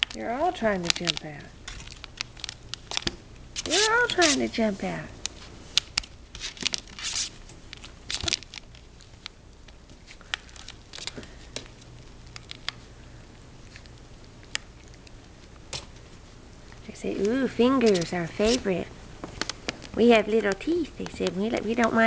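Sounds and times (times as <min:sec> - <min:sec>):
puppy paws tapping and scratching: 0:00.0 - 0:12.8, 0:13.6 - 0:22.0.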